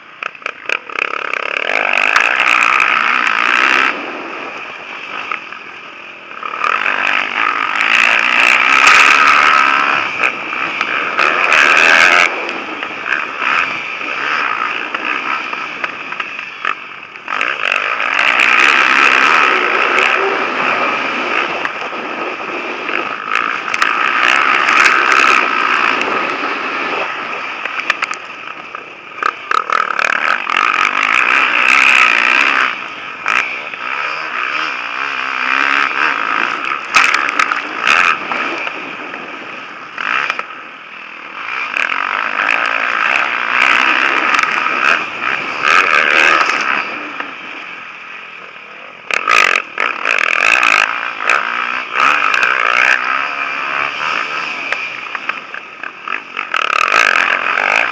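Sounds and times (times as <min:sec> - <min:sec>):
motocross bikes revving: 0:00.0 - 0:57.9.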